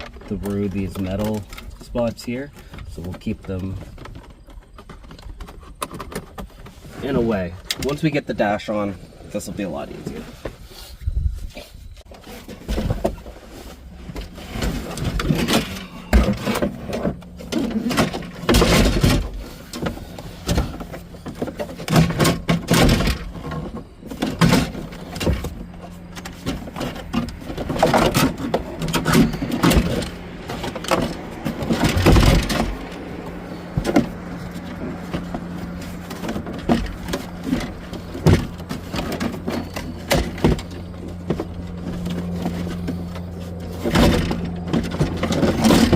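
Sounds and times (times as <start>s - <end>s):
dashboard parts knocking and scraping: 0.0s - 45.9s.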